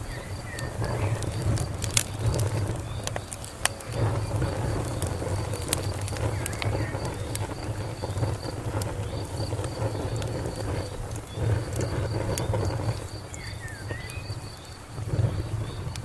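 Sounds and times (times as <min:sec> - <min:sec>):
bird chirp: 0:00.0 - 0:16.0
cricket chirping: 0:00.0 - 0:16.0
fire crackling and popping: 0:00.0 - 0:16.0.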